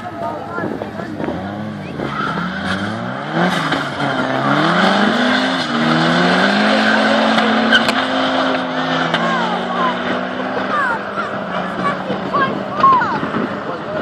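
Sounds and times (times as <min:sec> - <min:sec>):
car engines revving hard: 0:00.0 - 0:14.0
tyres squealing: 0:01.7 - 0:13.1.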